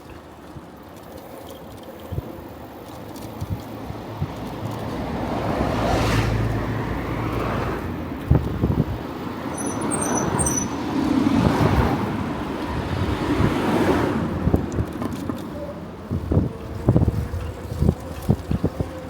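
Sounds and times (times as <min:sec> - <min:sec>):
motor vehicles passing: 0:02.1 - 0:19.0.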